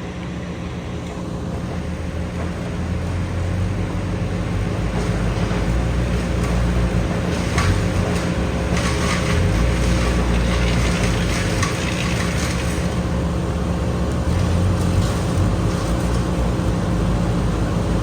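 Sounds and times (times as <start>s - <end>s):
heavy machinery engine rumbling: 0.0s - 18.0s.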